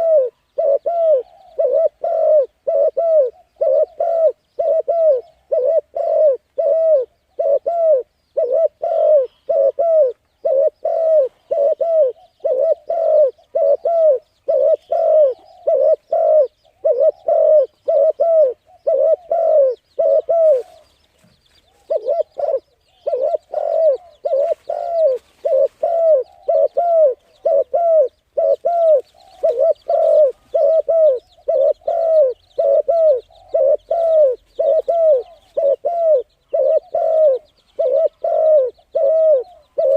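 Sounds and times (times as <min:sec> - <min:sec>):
bird hooting: 0:00.0 - 0:20.9, 0:21.7 - 0:39.9
faint bird chirps: 0:00.0 - 0:39.9.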